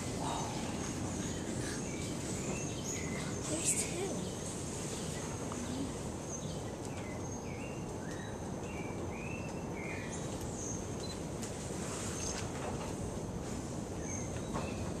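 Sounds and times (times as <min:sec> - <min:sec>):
high insect hum: 0:00.0 - 0:12.4.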